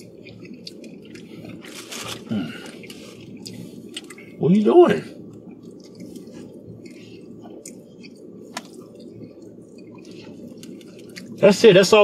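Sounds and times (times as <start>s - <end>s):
man chewing: 0.0s - 4.4s, 5.1s - 11.4s
low hum: 0.0s - 12.0s.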